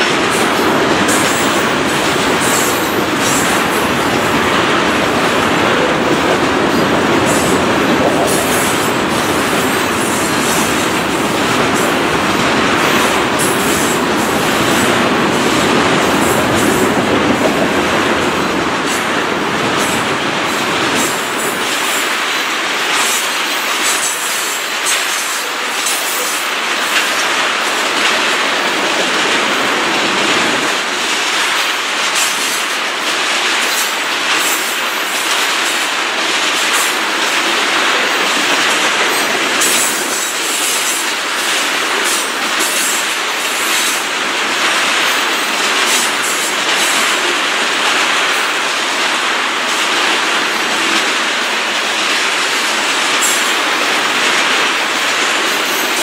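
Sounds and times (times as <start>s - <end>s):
freight train rolling past: 0.0s - 56.0s
wheels clacking over rail joints: 0.0s - 56.0s.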